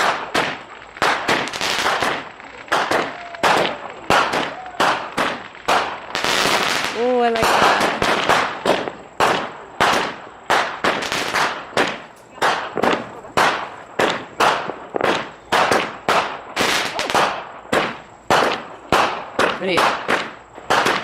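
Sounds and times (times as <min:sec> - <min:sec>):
fireworks banging: 0:00.0 - 0:21.0.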